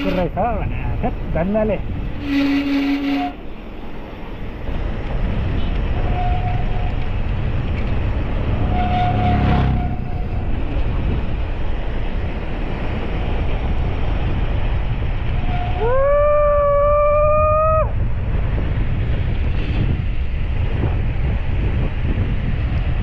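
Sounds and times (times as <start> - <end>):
wind and road rumble: 0.0 - 23.0.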